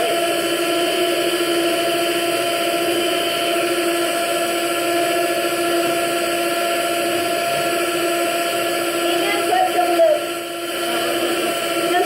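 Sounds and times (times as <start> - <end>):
electric mixer beating batter: 0.0 - 12.0.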